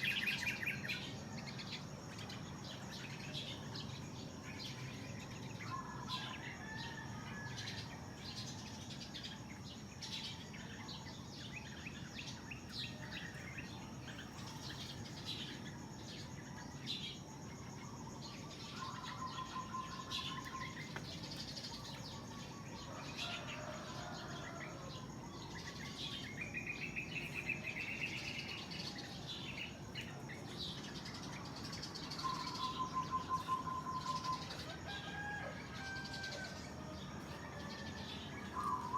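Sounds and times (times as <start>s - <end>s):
small birds chirping: 0.0s - 6.7s, 8.4s - 35.1s.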